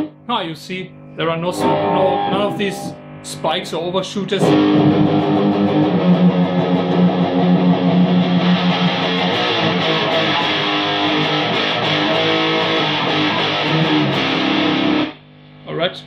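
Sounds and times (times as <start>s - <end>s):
distorted electric guitar: 1.5s - 3.4s, 4.4s - 15.6s.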